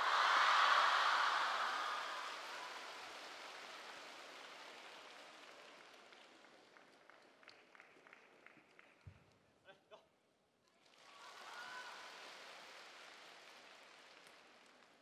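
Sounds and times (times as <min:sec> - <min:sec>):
audience applauding: 0:00.0 - 0:09.0, 0:10.8 - 0:15.0.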